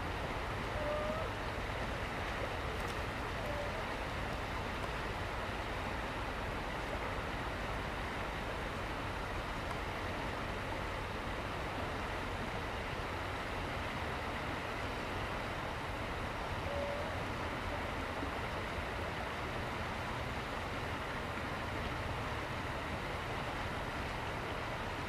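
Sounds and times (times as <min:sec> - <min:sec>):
river water flowing over rocks: 0:00.0 - 0:25.0.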